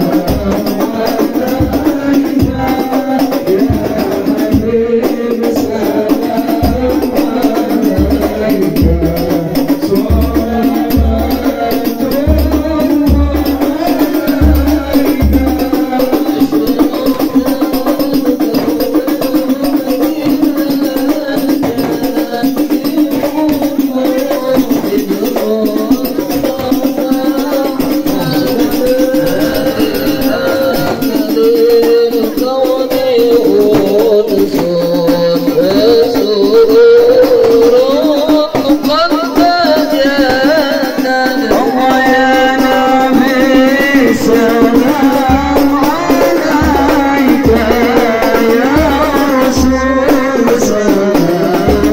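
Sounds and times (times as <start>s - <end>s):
congregation singing: 0.0s - 51.9s
rattling hand percussion: 0.0s - 51.9s.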